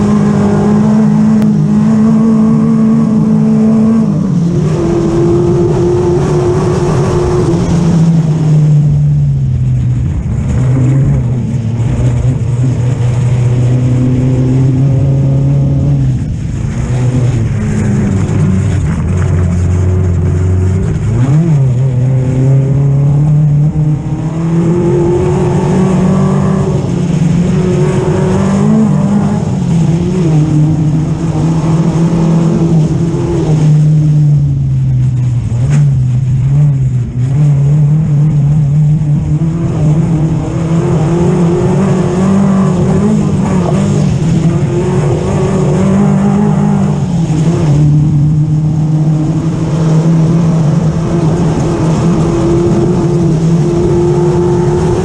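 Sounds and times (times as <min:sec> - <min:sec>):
race buggy engine running hard: 0:00.0 - 0:55.0
steady rush of noise: 0:00.0 - 0:55.0.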